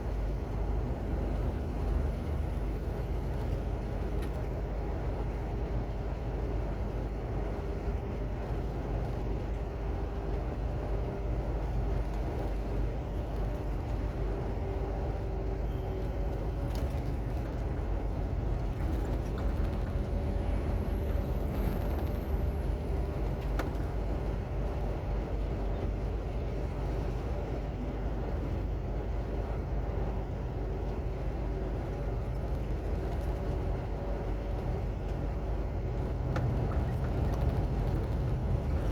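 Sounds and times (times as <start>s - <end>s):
diesel truck engine droning: 0.0s - 38.9s.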